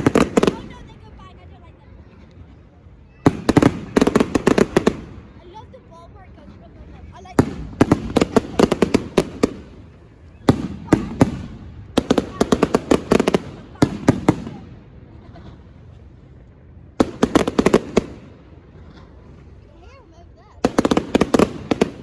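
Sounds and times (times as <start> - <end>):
fireworks crackling bangs: 0.0 - 22.0.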